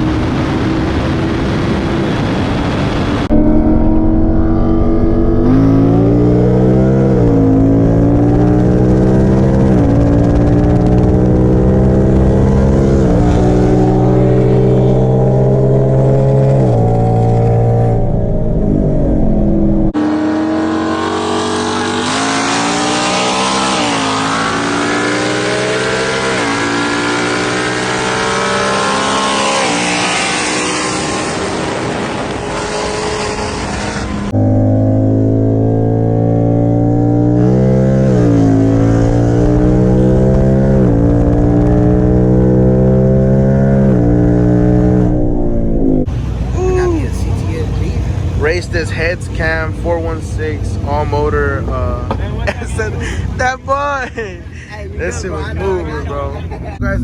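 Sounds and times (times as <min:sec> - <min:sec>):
car engine accelerating through gears: 0:03.0 - 0:50.1.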